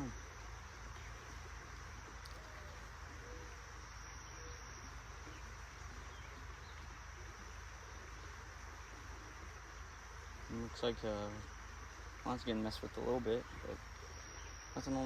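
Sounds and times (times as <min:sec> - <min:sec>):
even hiss: 0:00.0 - 0:15.0
high insect call: 0:00.0 - 0:15.0.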